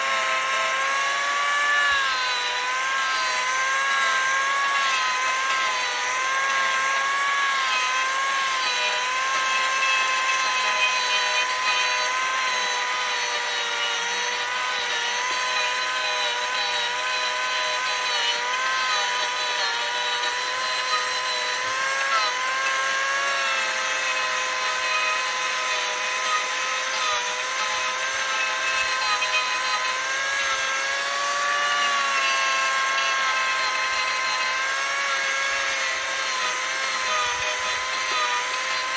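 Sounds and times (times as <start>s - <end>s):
angle grinder carving wood: 0.0s - 38.9s.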